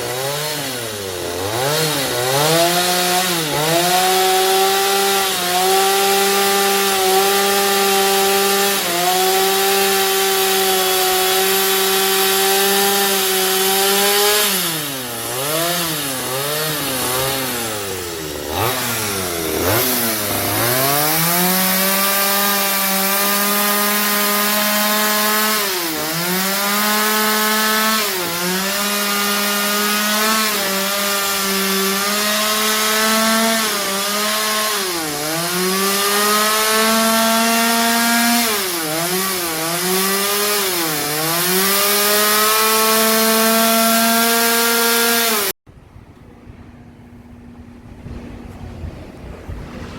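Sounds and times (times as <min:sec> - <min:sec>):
chainsaw cutting wood: 0:00.0 - 0:45.6.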